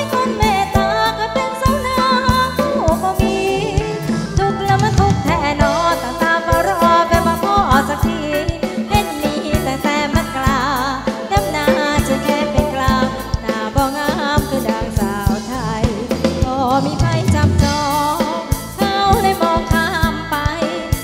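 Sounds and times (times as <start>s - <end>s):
band with steady drum beat: 0.0s - 21.0s
singer with heavy vibrato: 0.8s - 21.0s.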